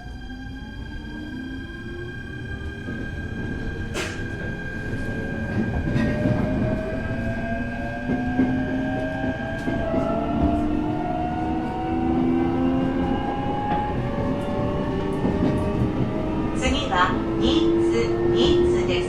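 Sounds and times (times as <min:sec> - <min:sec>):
train wheels rumbling on track: 0:01.8 - 0:19.0.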